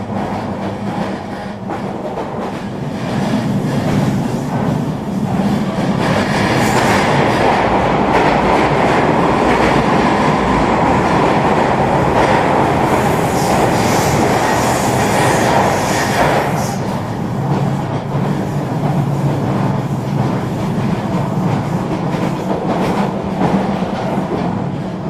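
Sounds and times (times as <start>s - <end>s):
train wheels rolling on rail: 0.0s - 25.0s.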